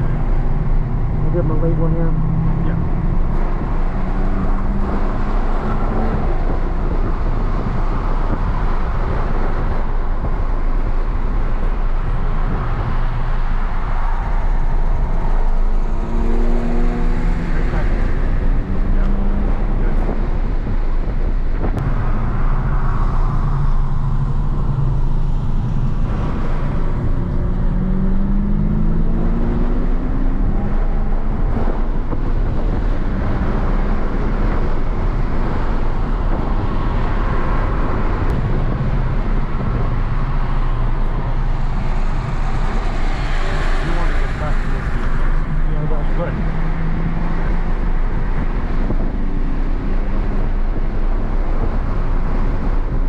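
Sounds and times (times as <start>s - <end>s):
car engine under load: 0.0s - 53.0s
road noise: 0.0s - 53.0s.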